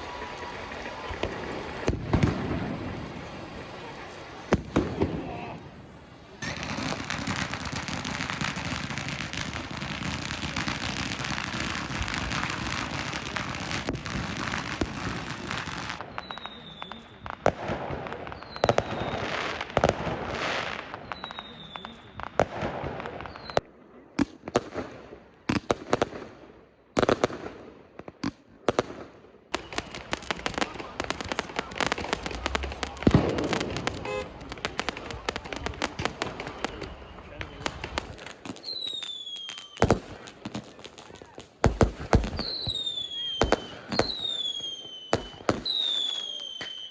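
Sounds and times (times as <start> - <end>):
falling whistles of fireworks: 0.0 - 46.9
firecrackers crackling: 0.0 - 46.9
fireworks bangs: 0.0 - 46.9.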